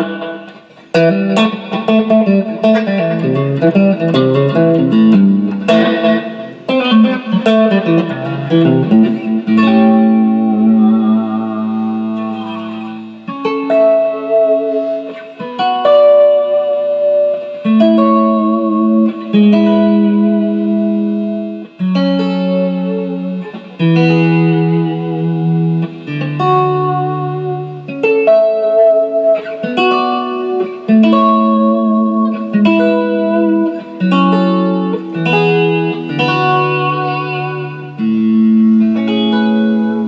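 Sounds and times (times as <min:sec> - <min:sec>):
electric guitar chords: 0:00.0 - 0:40.0.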